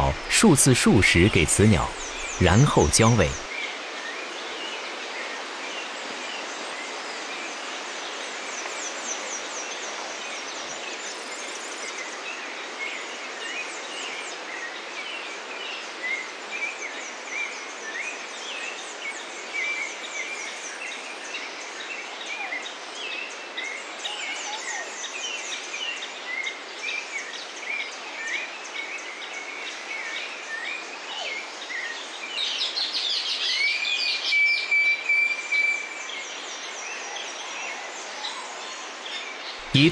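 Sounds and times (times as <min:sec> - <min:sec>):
forest background hiss: 0:00.0 - 0:03.5, 0:04.1 - 0:39.9.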